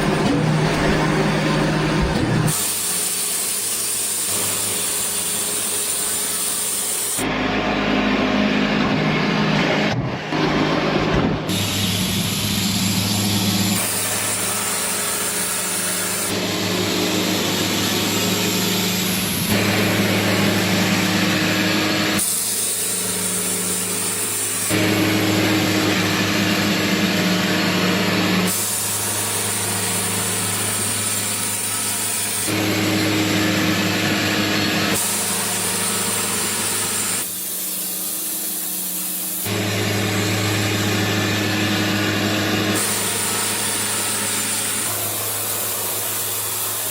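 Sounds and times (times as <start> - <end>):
saw hissing through log: 0.0 - 7.3, 11.5 - 46.9
sawmill engine hum: 0.0 - 46.9.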